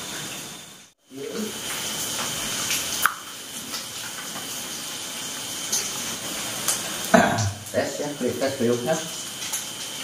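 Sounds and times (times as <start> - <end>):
food sizzling in hot oil: 0.0 - 10.0
oil popping and crackling: 1.2 - 10.0.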